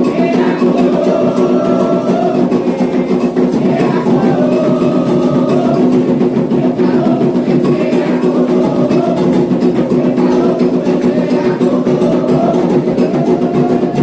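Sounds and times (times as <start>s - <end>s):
hand drums beating fast rhythm: 0.0s - 14.0s.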